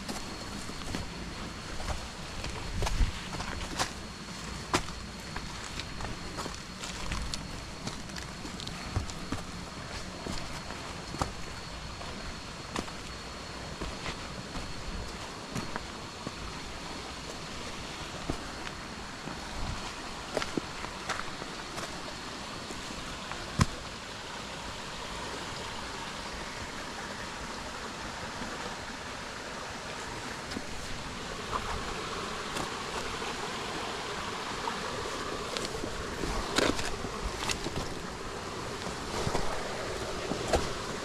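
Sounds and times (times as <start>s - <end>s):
creek water running: 0.0s - 41.0s.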